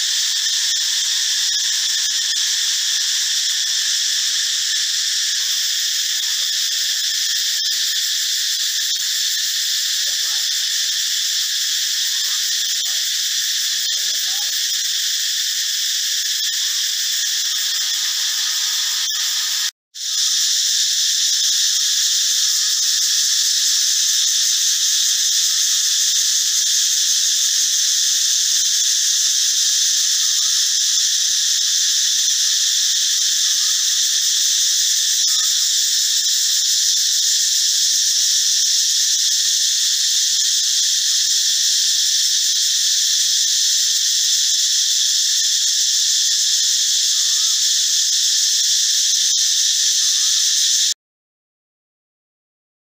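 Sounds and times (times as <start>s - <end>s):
cicada buzzing: 0.0s - 51.0s.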